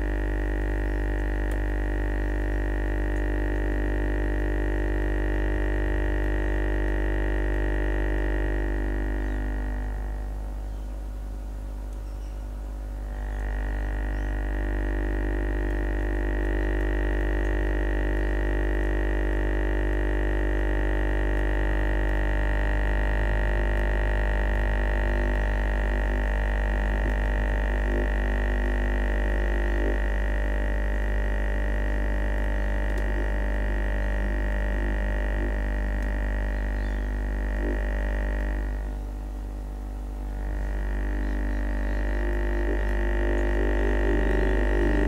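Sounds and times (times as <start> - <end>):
low buzzy test tone drone: 0.0 - 45.0.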